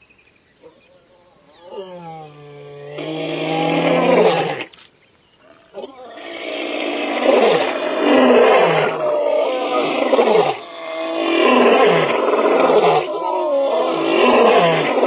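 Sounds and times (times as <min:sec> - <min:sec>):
lions roaring: 0:01.4 - 0:04.7, 0:05.5 - 0:15.0.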